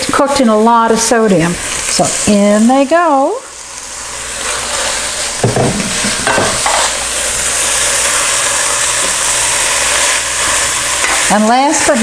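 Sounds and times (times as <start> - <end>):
sizzle from a pot: 0.0 - 12.0.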